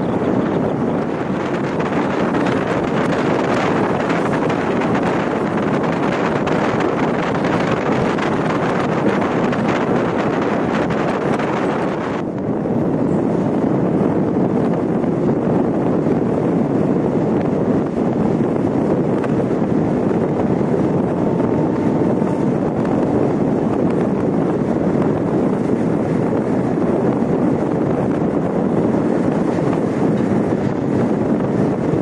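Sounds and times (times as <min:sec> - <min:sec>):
train rumbling at speed: 0:00.0 - 0:32.0
wind buffeting microphone: 0:00.0 - 0:32.0.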